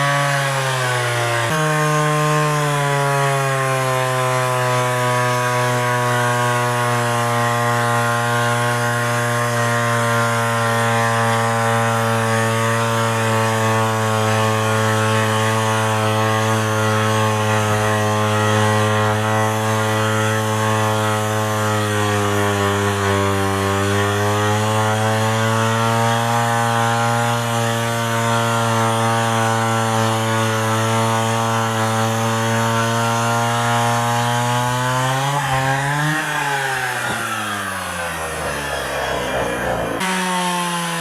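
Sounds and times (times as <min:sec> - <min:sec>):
chainsaw cutting logs: 0:00.0 - 0:41.0
chainsaw engine revving: 0:00.0 - 0:41.0.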